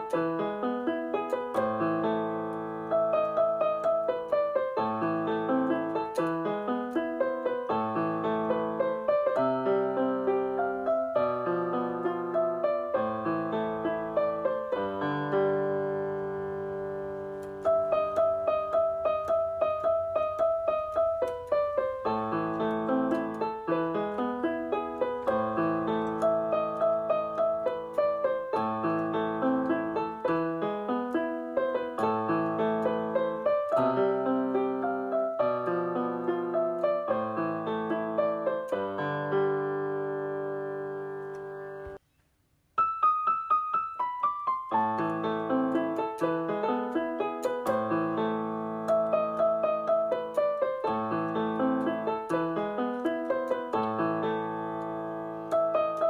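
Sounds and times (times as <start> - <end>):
gentle piano music: 0.0 - 42.0, 42.8 - 56.0.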